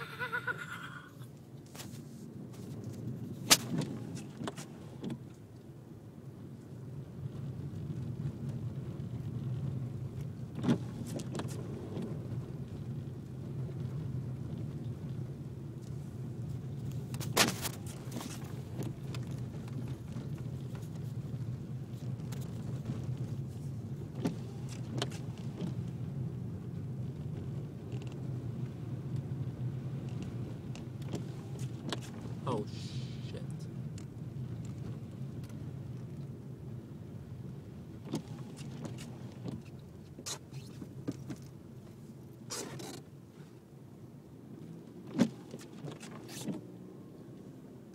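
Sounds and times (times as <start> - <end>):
car engine and road drone: 0.0 - 47.9.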